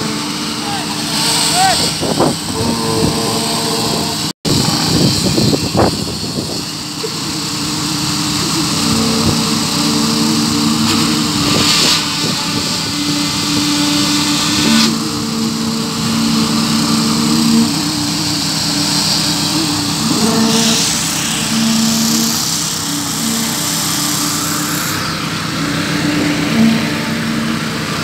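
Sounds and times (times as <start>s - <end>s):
construction machinery engine running: 0.0s - 28.0s.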